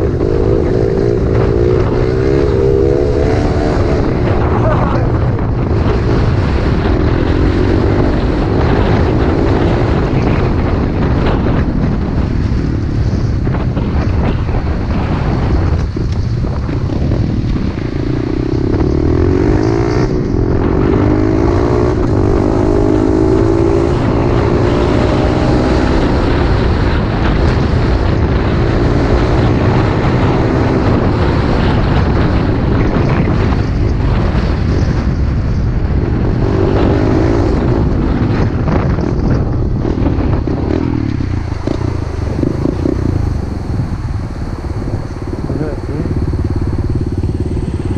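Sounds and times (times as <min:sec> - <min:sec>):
pit bike engine revving: 0:00.0 - 0:11.4, 0:17.1 - 0:35.1, 0:36.1 - 0:47.9
wind rumble on microphone: 0:00.0 - 0:47.9.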